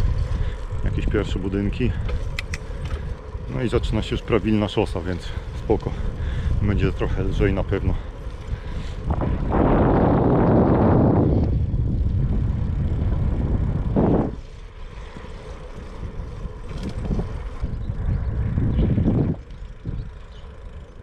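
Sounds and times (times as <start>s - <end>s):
wind rumbling on camera microphone: 0.0s - 21.0s.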